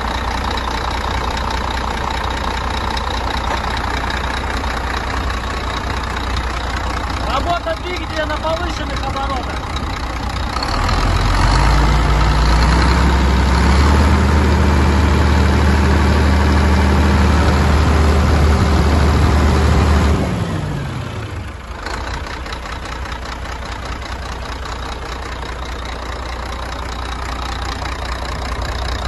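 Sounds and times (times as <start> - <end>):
diesel engine revving: 0.0 - 29.0.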